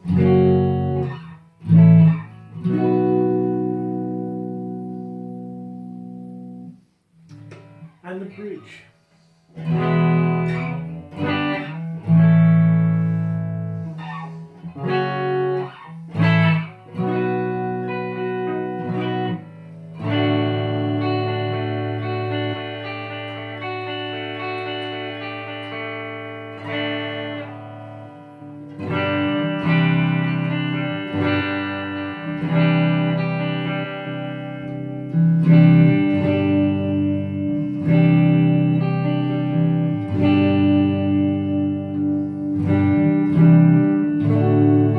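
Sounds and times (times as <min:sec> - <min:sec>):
electric guitar strummed chords: 0:00.0 - 0:44.9.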